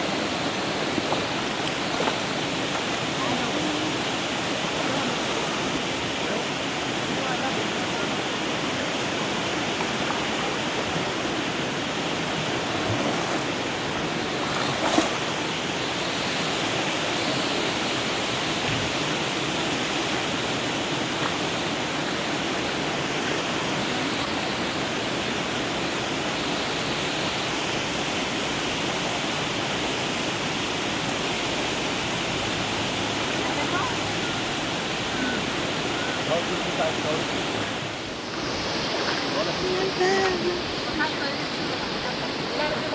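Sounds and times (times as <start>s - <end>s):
river water flowing: 0.0s - 42.9s.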